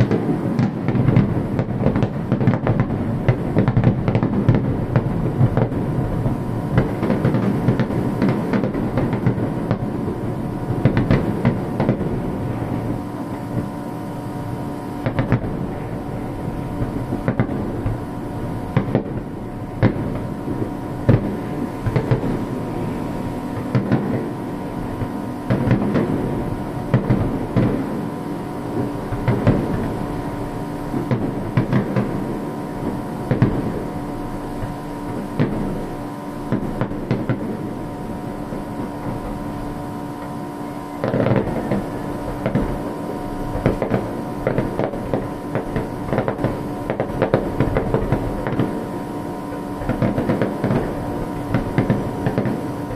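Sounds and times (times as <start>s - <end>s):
fireworks bursting: 0.0s - 52.9s
steady hum: 0.0s - 52.9s.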